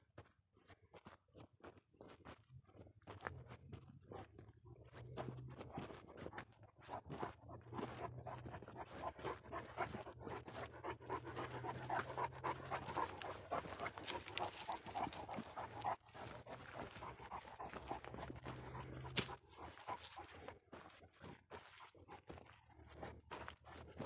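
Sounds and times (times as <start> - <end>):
dog panting: 4.1 - 24.0.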